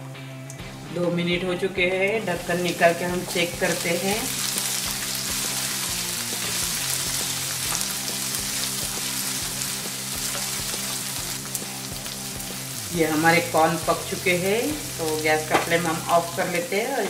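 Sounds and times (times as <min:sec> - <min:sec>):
soft background music: 0:00.0 - 0:17.0
vegetables sizzling in a pan: 0:01.6 - 0:17.0.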